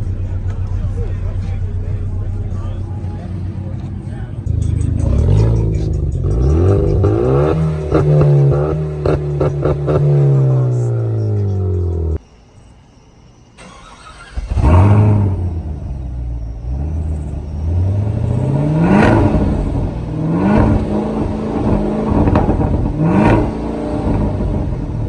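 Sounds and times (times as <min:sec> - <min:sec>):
sports car engine accelerating: 0:00.0 - 0:12.2, 0:14.4 - 0:25.0.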